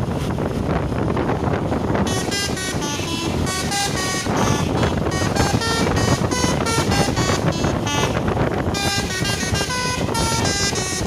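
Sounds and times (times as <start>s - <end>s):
low rumble: 0.0s - 11.0s
multi-tone air horn melody: 1.9s - 11.0s.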